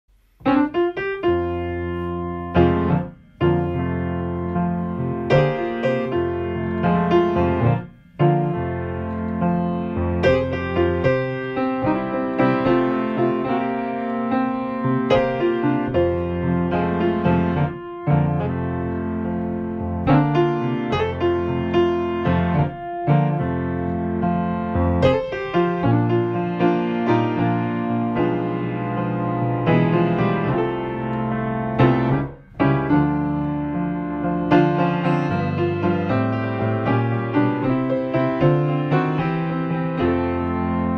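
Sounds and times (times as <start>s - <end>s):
solo piano melody: 0.1s - 40.9s.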